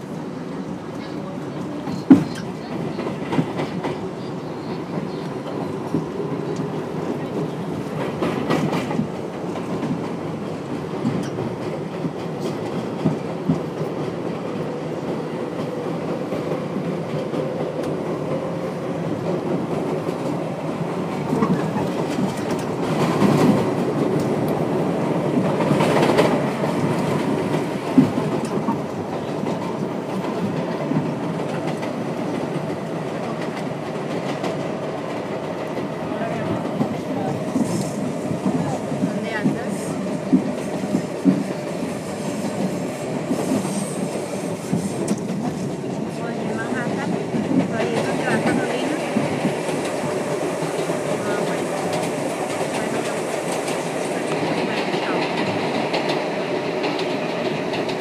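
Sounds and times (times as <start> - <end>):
subway car rumbling: 0.0 - 58.0.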